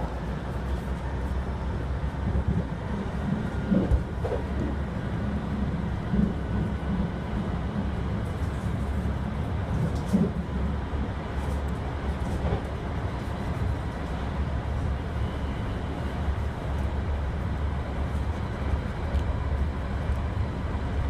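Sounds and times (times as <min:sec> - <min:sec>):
subway train rumble: 0:00.0 - 0:21.0.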